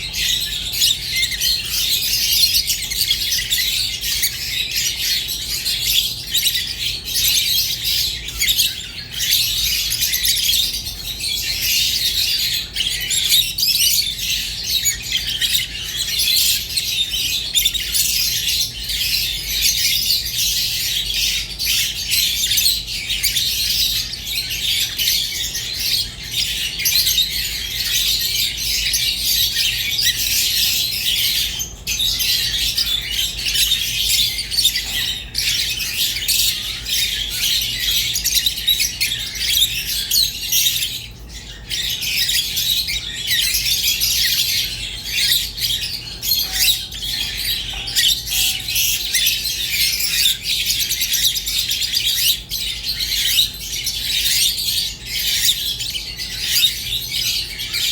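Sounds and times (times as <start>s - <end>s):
lovebirds chirping: 0.0s - 57.9s.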